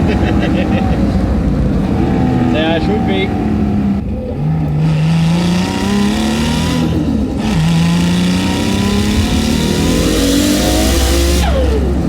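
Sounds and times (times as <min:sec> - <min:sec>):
turbo car engine accelerating hard: 0:00.0 - 0:12.0.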